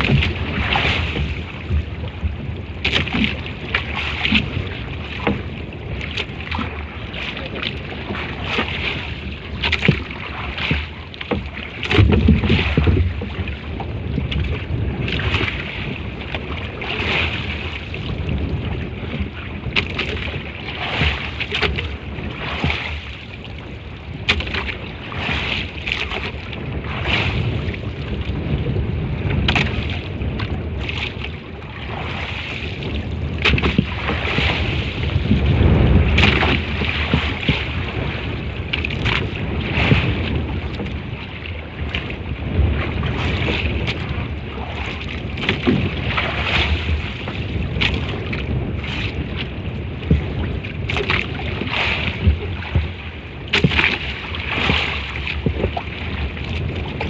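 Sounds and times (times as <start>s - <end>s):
water sloshing around boat: 0.0s - 57.0s
wind buffeting microphone: 0.0s - 57.0s.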